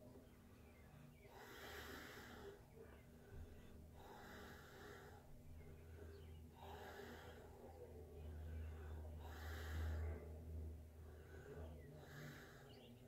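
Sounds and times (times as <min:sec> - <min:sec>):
low steady hum: 0:00.0 - 0:13.0
man breathing: 0:00.0 - 0:13.0.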